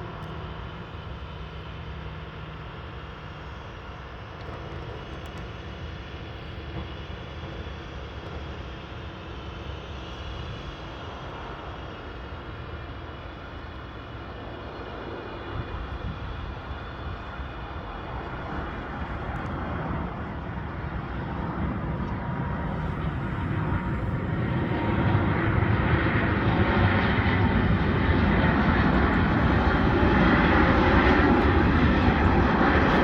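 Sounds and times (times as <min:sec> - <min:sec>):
aircraft engines running: 0:00.0 - 0:33.0.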